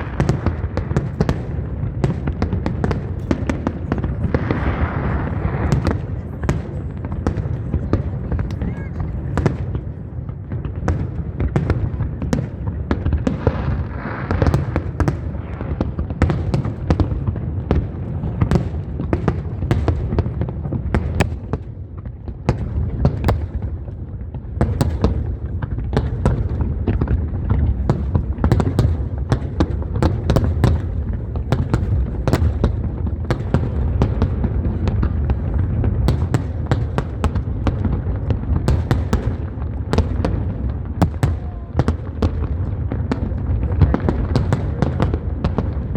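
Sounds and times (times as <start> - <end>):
booming firework shells: 0.0 - 23.7, 24.3 - 45.9
fireworks bangs and crackles: 0.0 - 45.9.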